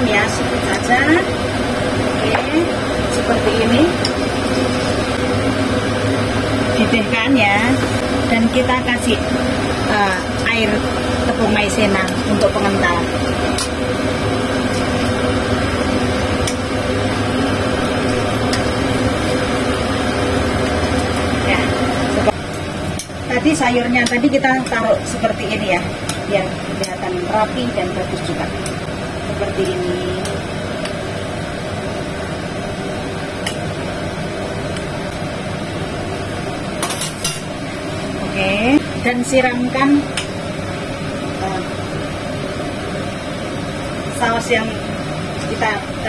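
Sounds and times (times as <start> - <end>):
kitchen hum: 0.0 - 46.0
sauce boiling in a wok: 0.0 - 46.0.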